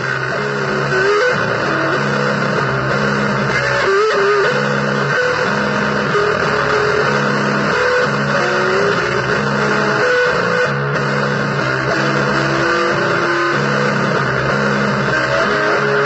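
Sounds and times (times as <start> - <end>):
distorted blues electric guitar: 0.0 - 16.0.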